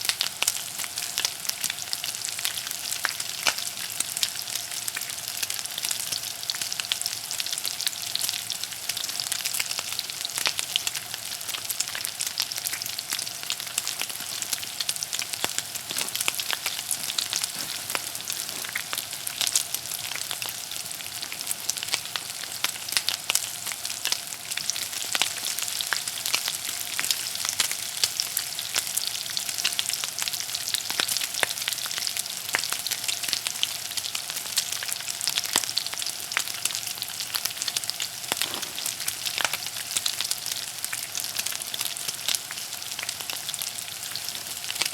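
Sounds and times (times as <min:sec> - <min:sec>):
hot oil sizzling: 0:00.0 - 0:44.9.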